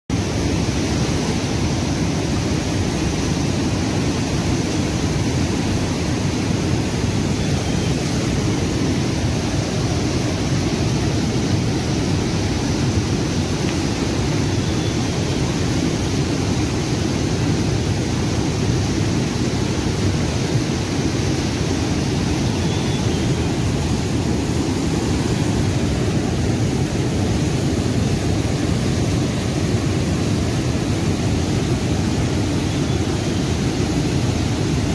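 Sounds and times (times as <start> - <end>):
river rapids roaring: 0.1 - 34.9.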